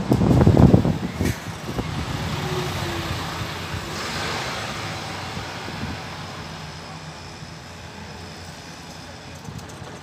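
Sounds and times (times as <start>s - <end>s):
bus diesel engine pulling away: 0.0s - 10.0s
road and tyre noise: 0.0s - 10.0s.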